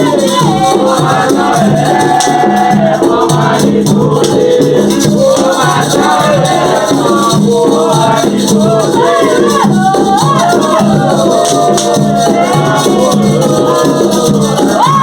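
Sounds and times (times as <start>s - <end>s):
shaken rattle: 0.0s - 15.0s
steady low drum beat: 0.0s - 15.0s
voices singing: 0.0s - 15.0s.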